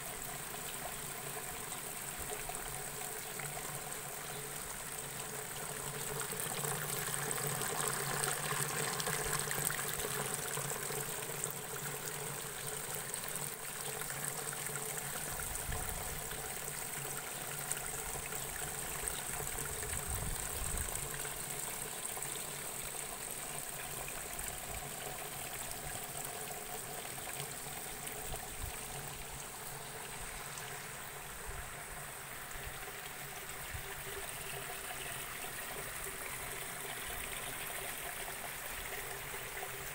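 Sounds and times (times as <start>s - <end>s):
water trickling into gutter: 0.0s - 39.9s.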